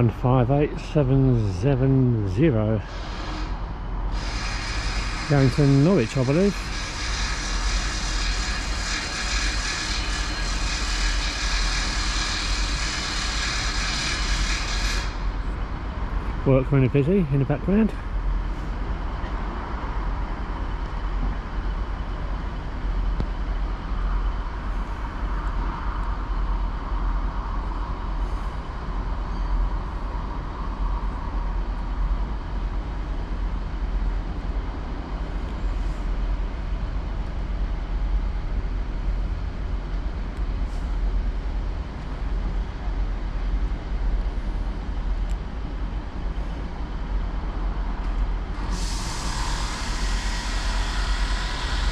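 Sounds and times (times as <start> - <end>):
diesel engine rumble: 0.0 - 7.0, 15.1 - 51.9
faint constant whine: 0.0 - 51.9.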